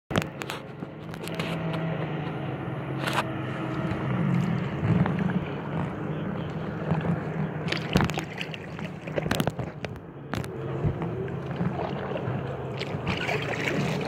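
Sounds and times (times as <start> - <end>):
boat engine humming: 0.1 - 14.0
water sloshing: 0.1 - 14.0.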